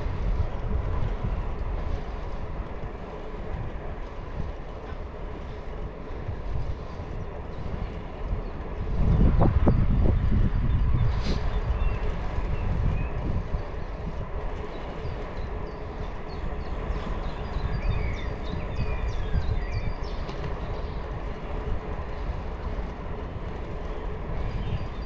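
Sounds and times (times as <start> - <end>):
bicycle rolling noise: 0.0 - 25.0
wind on microphone: 0.0 - 25.0.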